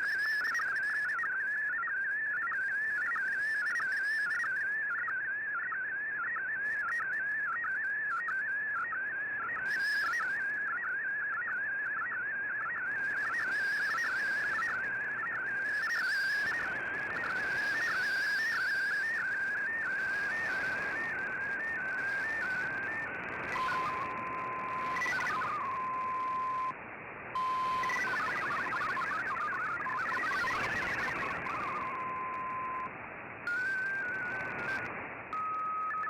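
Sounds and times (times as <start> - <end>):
warbling digital data tones: 0.0 - 26.7, 27.4 - 32.9, 33.5 - 36.0
radio background hiss: 0.0 - 36.0.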